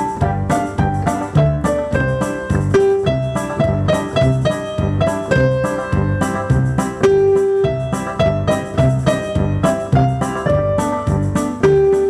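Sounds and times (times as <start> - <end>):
piano chords with bass line: 0.0 - 12.0.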